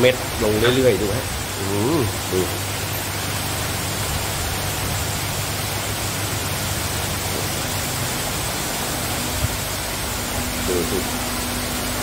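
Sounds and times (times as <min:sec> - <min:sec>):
heavy rain on concrete: 0:00.0 - 0:12.0.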